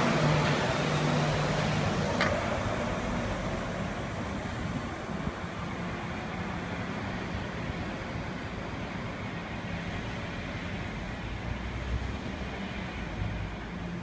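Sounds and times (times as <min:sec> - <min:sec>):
rubber-tyred train running: 0:00.0 - 0:14.0
rumble of road traffic: 0:00.0 - 0:14.0.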